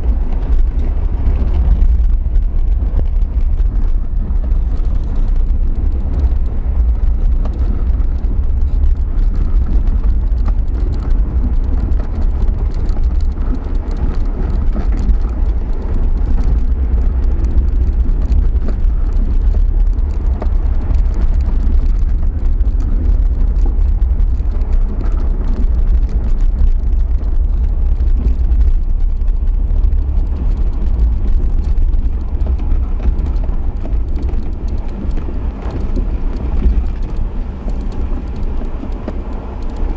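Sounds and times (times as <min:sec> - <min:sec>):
car engine rumble: 0:00.0 - 0:39.9
tyres on gravel: 0:00.0 - 0:39.9.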